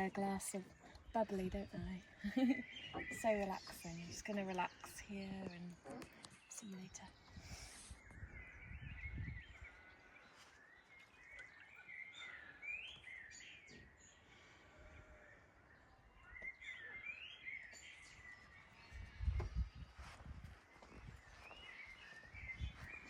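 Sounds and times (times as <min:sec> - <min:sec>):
birds singing: 0:00.0 - 0:23.0.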